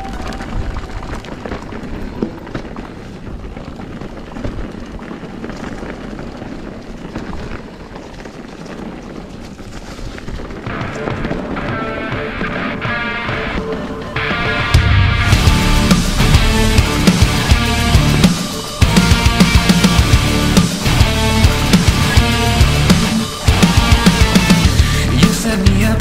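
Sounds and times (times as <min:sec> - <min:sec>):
bike rattling on rough trail: 0:00.0 - 0:26.0.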